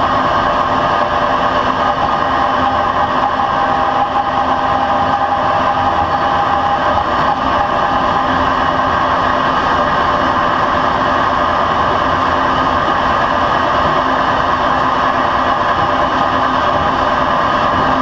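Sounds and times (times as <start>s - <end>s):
train wheels rolling on rail: 0.0s - 18.0s.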